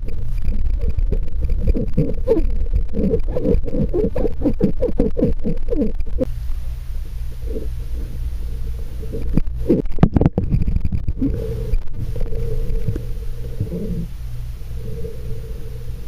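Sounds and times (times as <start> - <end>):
underwater low rumble: 0.0 - 16.0.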